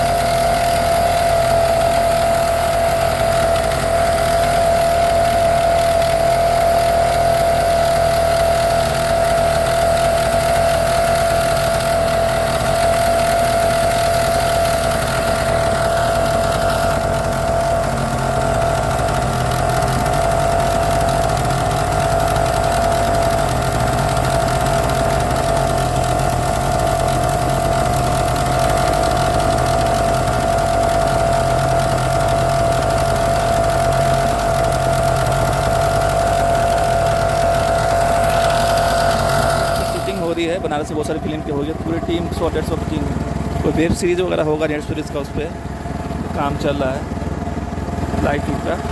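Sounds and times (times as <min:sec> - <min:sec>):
motorboat engine running: 0:00.0 - 0:48.9.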